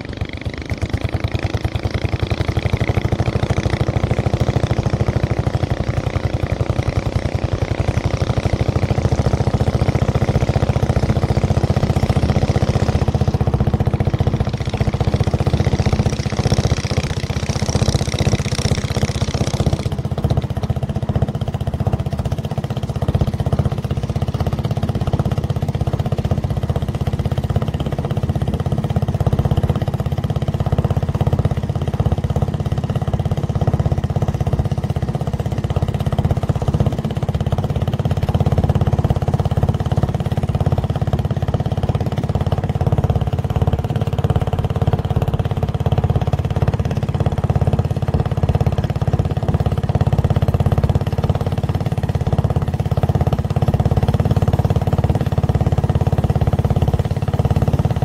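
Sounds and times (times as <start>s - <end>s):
motorboat engine droning: 0.0s - 58.0s.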